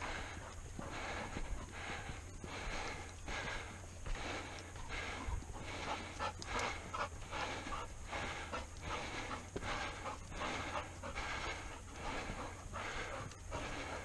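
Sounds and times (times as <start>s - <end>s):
dog panting rapidly: 0.0s - 14.0s.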